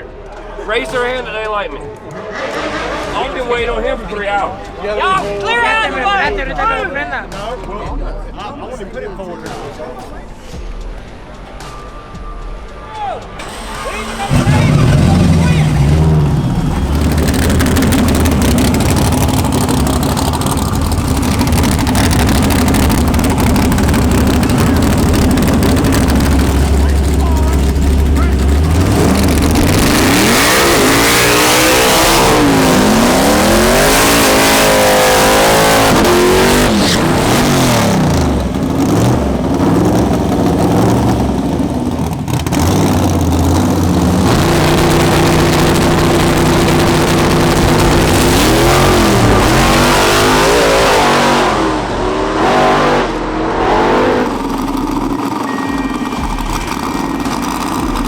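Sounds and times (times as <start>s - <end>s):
car engines revving: 2.2s - 5.4s, 13.3s - 58.0s.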